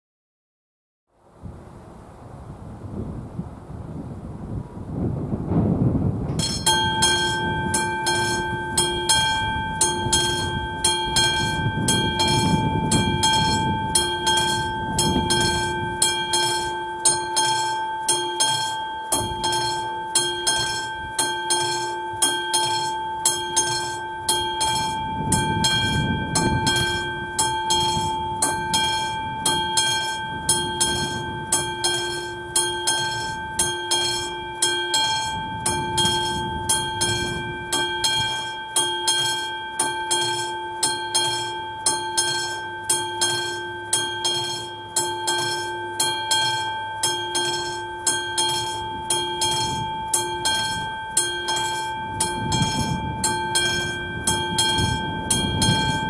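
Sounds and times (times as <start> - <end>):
level crossing warning bell ringing: 6.3 - 56.0.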